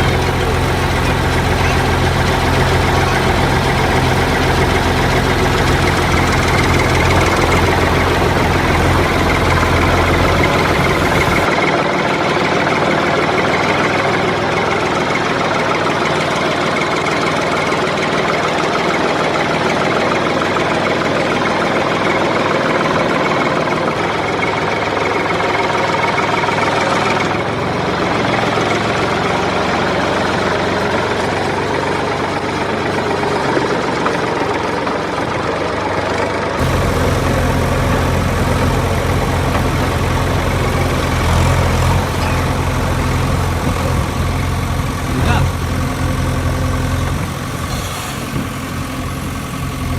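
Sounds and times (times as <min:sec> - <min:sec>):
deep rumbling engine: 0:00.0 - 0:49.9
vehicle engine running: 0:00.0 - 0:49.9.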